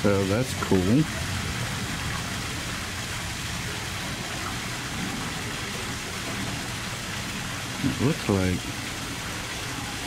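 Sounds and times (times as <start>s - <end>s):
rushing water-like hiss: 0.0s - 10.0s.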